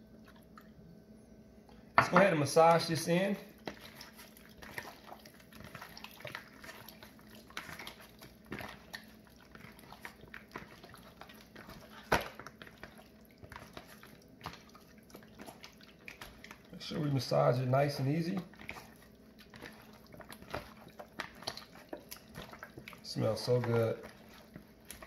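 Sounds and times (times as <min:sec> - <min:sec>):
wet squelches from kneading: 0:02.3 - 0:25.0.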